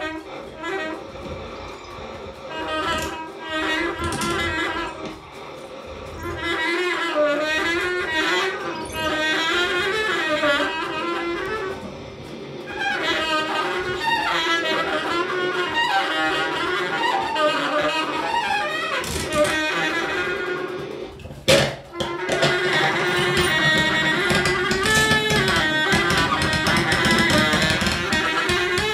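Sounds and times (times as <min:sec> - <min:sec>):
baritone saxophone: 0:00.0 - 0:28.9
synthesizer and turntable sounds: 0:00.0 - 0:28.9.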